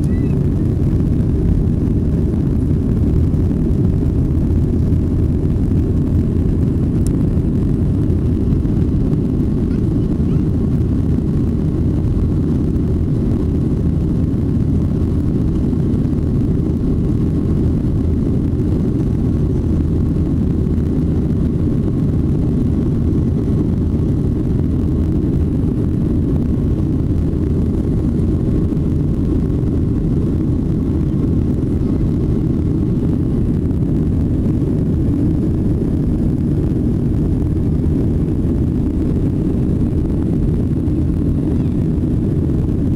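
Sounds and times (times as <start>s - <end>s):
jet engines in aircraft cabin: 0.0s - 42.9s
rushing airflow: 0.0s - 42.9s.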